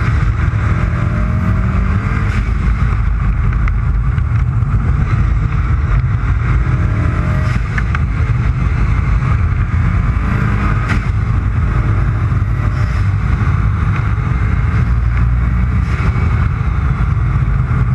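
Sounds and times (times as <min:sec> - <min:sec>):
road noise: 0:00.0 - 0:17.9.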